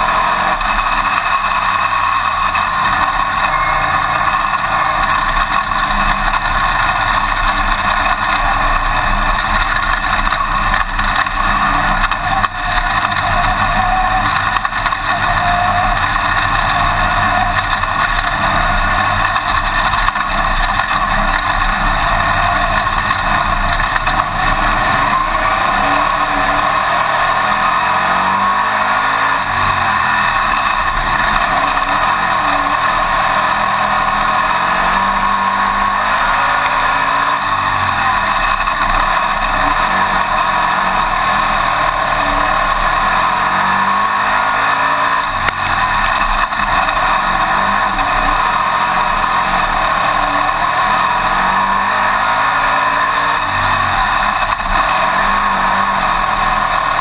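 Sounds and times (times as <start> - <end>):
race car engine roar: 0.0 - 57.0.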